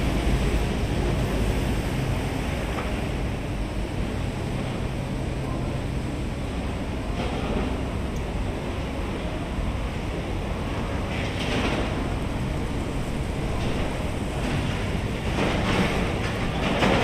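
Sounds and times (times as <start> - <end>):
rushing outdoor ambience: 0.0 - 17.0.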